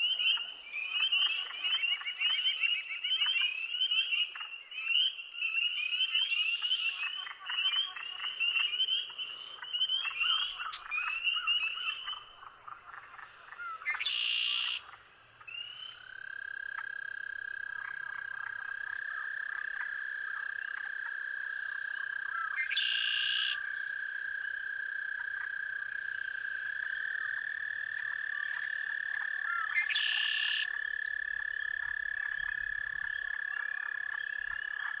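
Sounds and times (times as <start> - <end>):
frog trills: 0.0 - 35.0
frogs chirping: 0.0 - 35.0.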